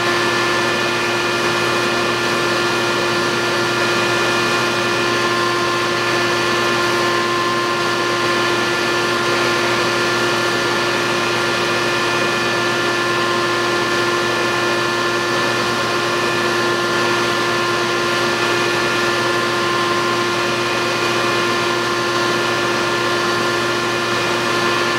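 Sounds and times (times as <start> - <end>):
electric grooming brush motor whine: 0.0 - 24.9.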